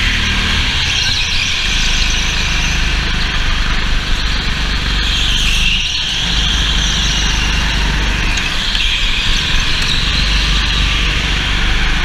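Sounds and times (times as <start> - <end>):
go-kart engine racing: 0.0 - 12.0.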